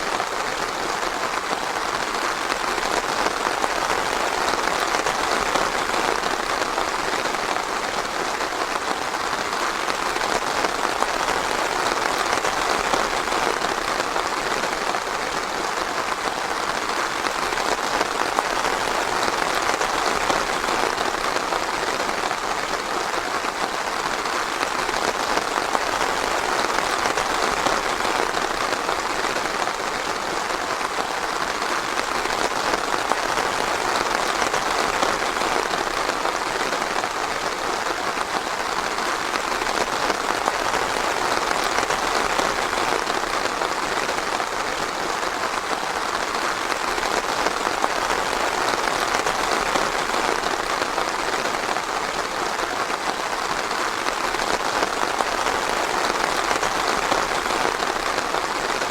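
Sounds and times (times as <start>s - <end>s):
light rain on leaves: 0.0s - 58.9s.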